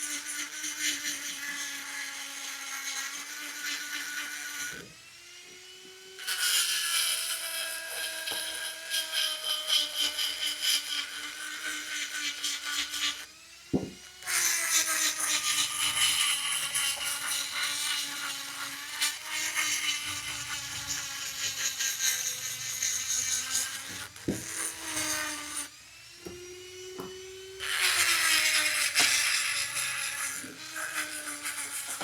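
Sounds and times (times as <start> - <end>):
rotary tool motor whine: 0.0 - 32.0.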